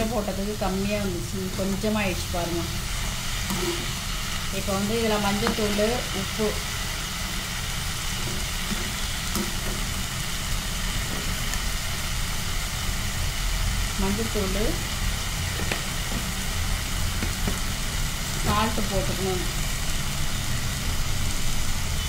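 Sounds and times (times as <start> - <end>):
greens sizzling in a pan: 0.0 - 22.0.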